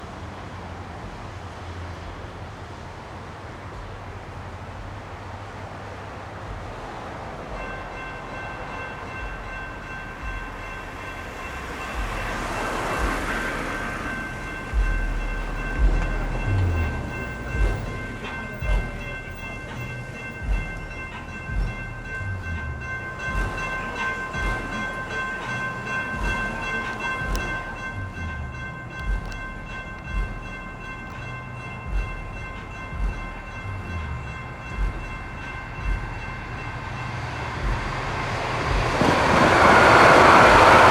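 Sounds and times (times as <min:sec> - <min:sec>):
crossing bells ringing: 0:00.0 - 0:40.9
rush of train noise: 0:00.0 - 0:40.9
train wheels thumping over rail joints: 0:01.0 - 0:40.9.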